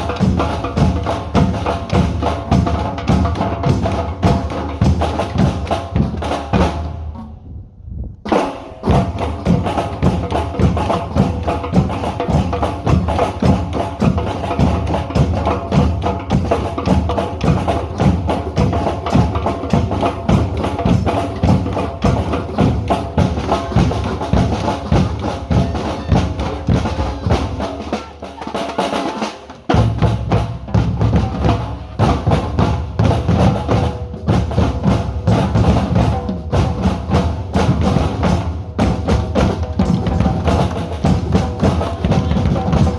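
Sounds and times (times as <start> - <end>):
group of drummers playing: 0.0 - 7.3, 8.3 - 42.9.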